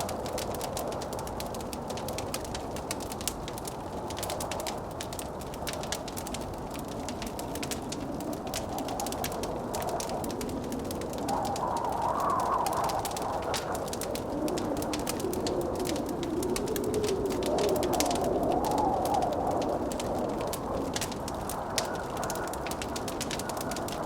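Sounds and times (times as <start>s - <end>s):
blizzard wind rushing: 0.0s - 24.0s
wood fire crackling and popping: 0.0s - 24.0s.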